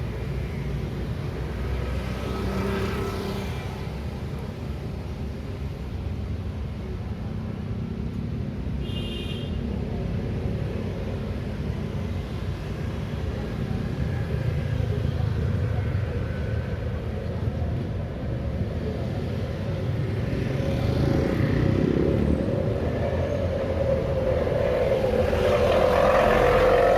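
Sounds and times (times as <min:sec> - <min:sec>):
road traffic rumble: 0:00.0 - 0:26.9.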